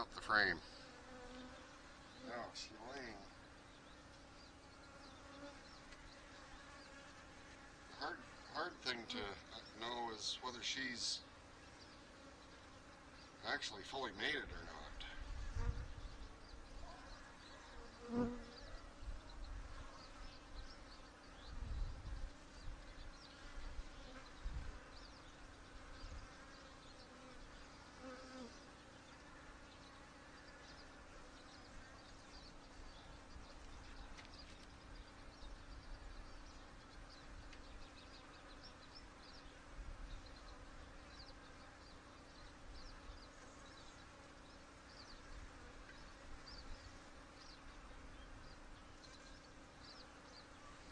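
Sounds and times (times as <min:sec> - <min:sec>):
honey bees humming: 0:00.0 - 0:50.9.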